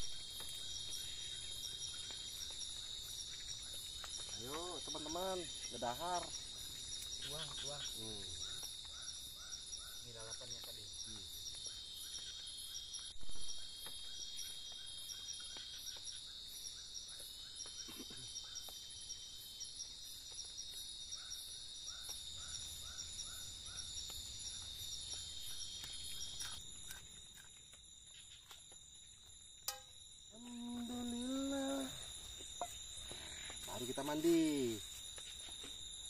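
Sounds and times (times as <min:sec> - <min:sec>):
insects buzzing chorus: 0:00.0 - 0:36.0
low insect chirp: 0:00.0 - 0:36.0.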